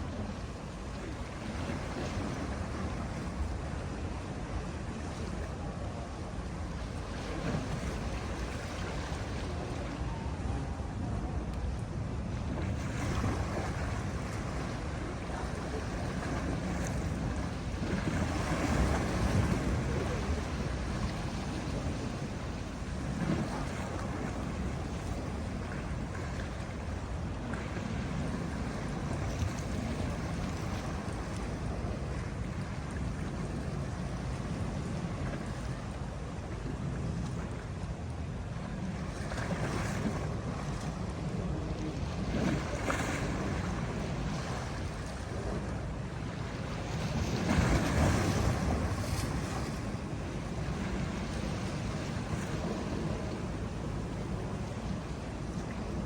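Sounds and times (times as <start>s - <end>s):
sea waves washing onto shore: 0.0s - 56.0s.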